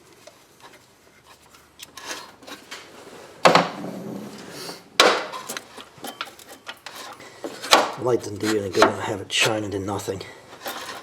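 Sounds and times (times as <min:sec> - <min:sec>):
tools scraping and rubbing: 0:00.6 - 0:09.6, 0:10.5 - 0:11.0.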